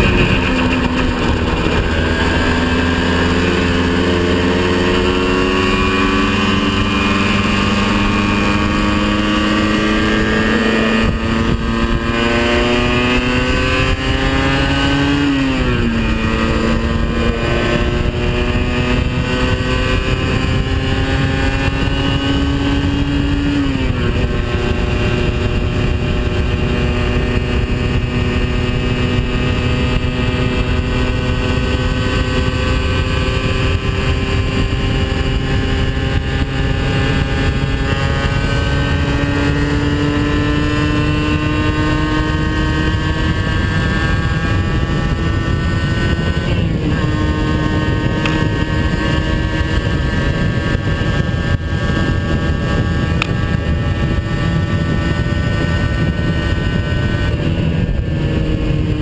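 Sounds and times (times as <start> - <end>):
two-stroke motorcycle engine: 0.0 - 59.0
wind rushing over microphone: 0.0 - 59.0.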